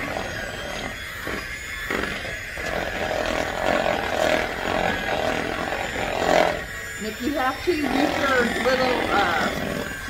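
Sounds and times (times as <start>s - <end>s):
electric mixer beating: 0.0s - 10.0s.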